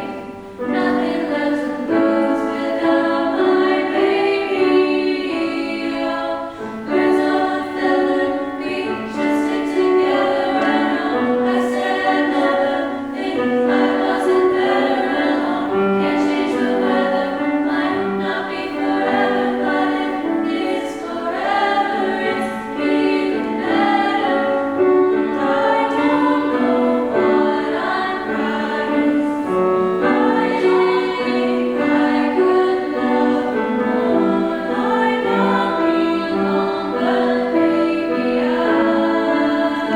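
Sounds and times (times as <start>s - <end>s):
a cappella group singing: 0.0s - 39.9s.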